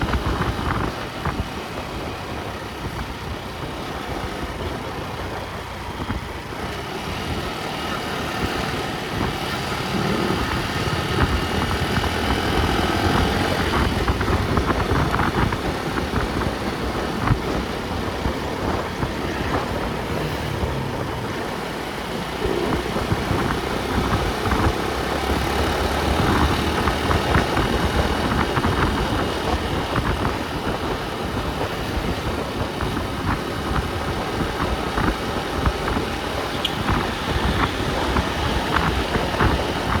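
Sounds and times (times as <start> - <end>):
vehicle engine and road noise: 0.0 - 40.0.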